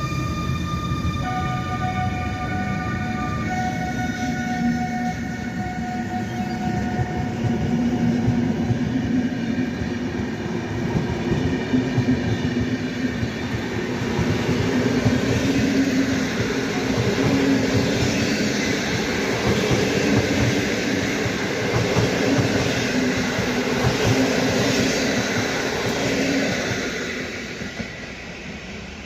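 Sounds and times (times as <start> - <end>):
electric locomotive whine: 0.0 - 29.0
train wheels rumbling on track: 2.2 - 29.0.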